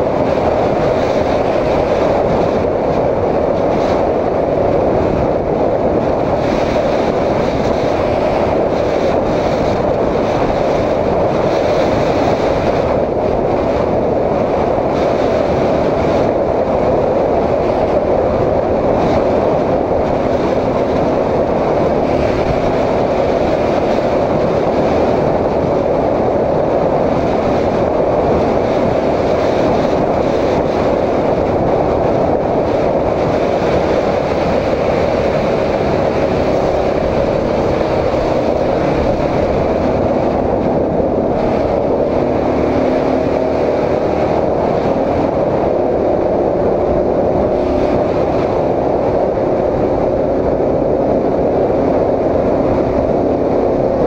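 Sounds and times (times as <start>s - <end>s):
motorcycle engine drone: 0.0s - 54.0s
wind rush: 0.0s - 54.0s.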